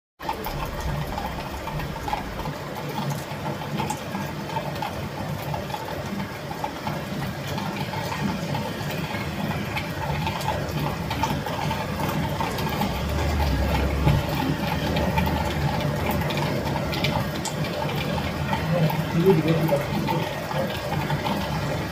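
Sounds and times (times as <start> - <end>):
raindrops striking: 0.2 - 21.9
steady rain falling: 0.2 - 21.9.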